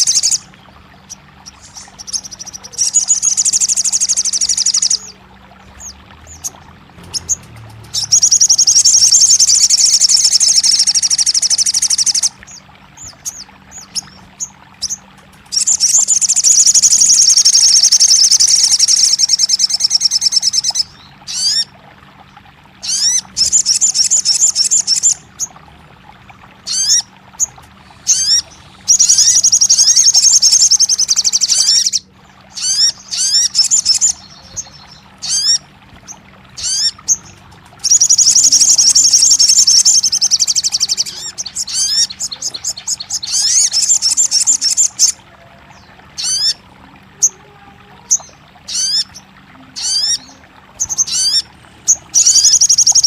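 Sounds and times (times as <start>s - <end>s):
bird trilling and singing: 0.0s - 5.2s, 5.8s - 21.7s, 22.8s - 25.5s, 26.7s - 46.6s, 47.2s - 53.0s
faint steady hum: 0.0s - 53.0s.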